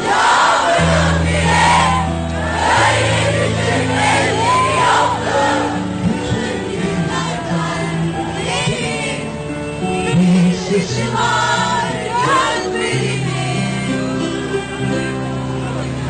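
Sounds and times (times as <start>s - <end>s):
audience singing along: 0.0s - 16.0s.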